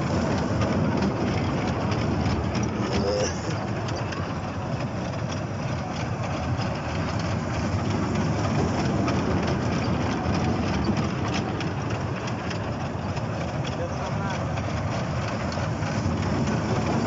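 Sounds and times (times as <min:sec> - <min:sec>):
rail clicks: 0:00.0 - 0:17.0
train wheels rumbling on rail: 0:00.0 - 0:17.0.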